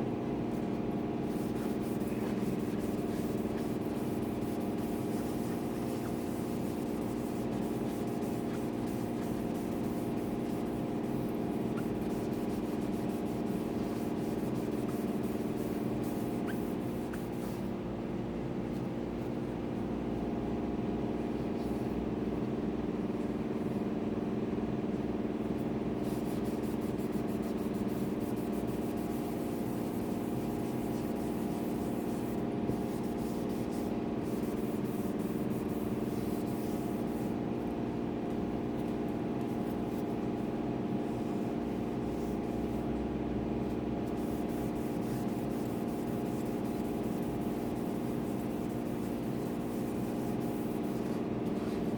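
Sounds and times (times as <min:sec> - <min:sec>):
steady machine hum: 0:00.0 - 0:51.9.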